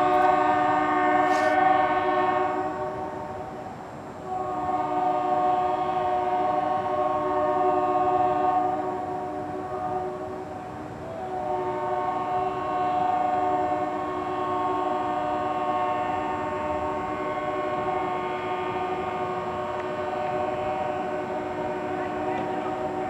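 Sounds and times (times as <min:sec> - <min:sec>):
locomotive air horn: 0:00.0 - 0:03.6, 0:04.2 - 0:23.0.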